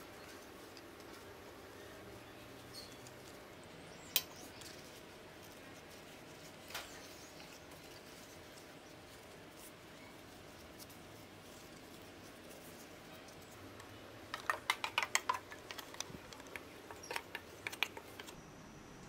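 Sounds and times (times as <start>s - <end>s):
leaves crinkling: 0.0s - 18.4s
quick crackles and clicks: 0.0s - 18.4s.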